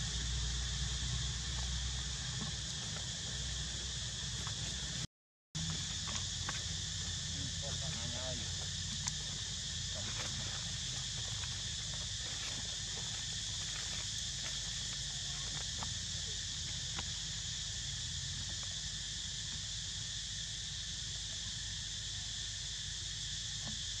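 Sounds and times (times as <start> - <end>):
insect chorus drone: 0.0 - 24.0.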